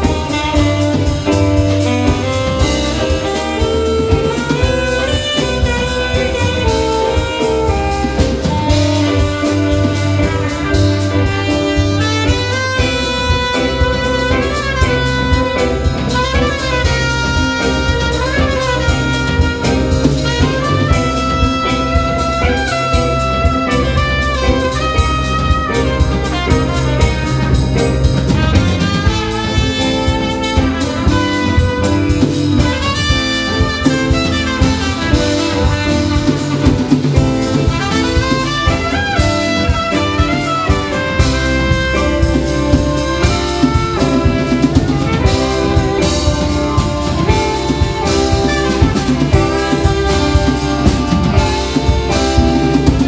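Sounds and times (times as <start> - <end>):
alto saxophone: 0.0 - 53.0
bass guitar: 0.0 - 53.0
drum kit: 0.0 - 53.0
trumpet: 0.0 - 53.0.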